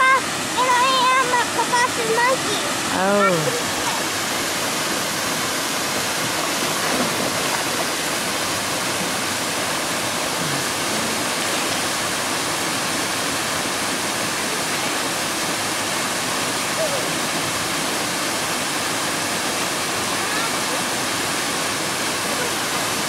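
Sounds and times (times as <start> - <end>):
waterfall rushing into pool: 0.0 - 23.0.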